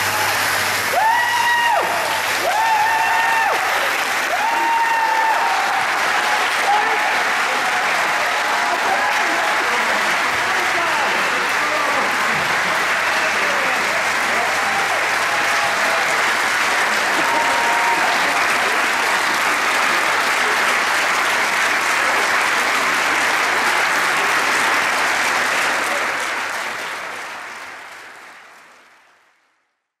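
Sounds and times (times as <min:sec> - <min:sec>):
audience applauding: 0:00.0 - 0:29.8.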